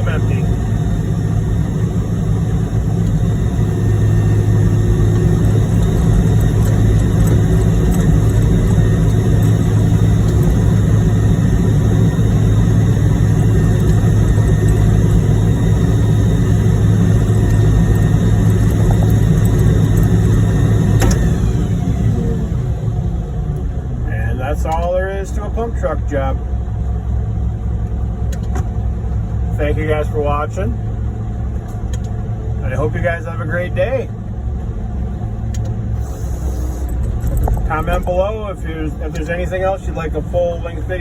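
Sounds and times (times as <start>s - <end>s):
diesel truck engine droning: 0.0s - 41.0s.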